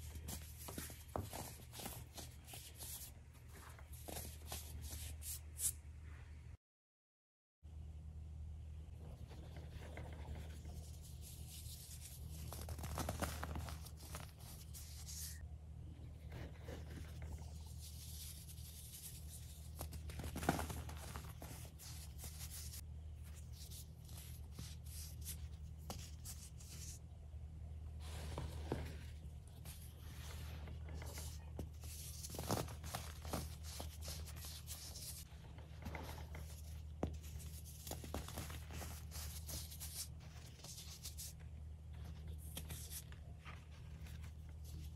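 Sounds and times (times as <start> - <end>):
steady low hum: 7.7 - 44.9.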